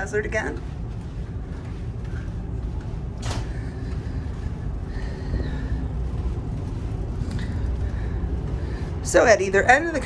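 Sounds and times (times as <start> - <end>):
ship machinery rumble: 0.0 - 10.0.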